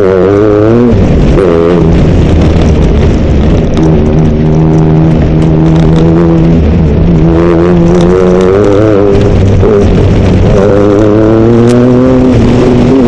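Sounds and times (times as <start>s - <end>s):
car engine while driving: 0.0s - 13.0s.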